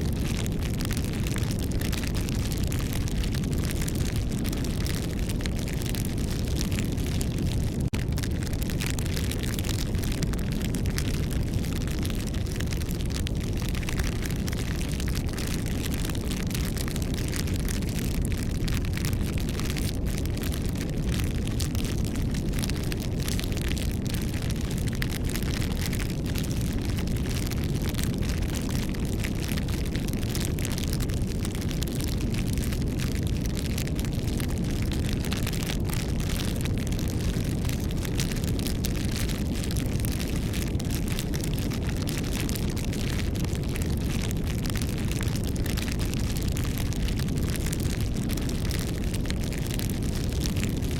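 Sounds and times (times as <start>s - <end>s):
campfire flames rumbling: 0.0s - 50.9s
wood crackling and popping: 0.0s - 50.9s.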